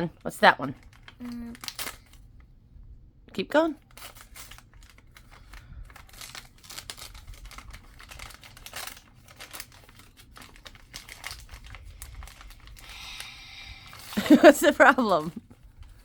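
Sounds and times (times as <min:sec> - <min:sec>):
wrapping paper crinkling and tearing: 0:00.8 - 0:02.3, 0:03.8 - 0:15.4.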